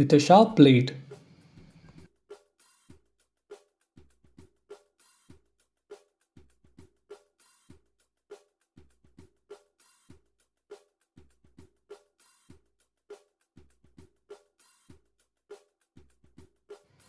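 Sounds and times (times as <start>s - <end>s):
faint drum beat music: 0.0s - 17.0s.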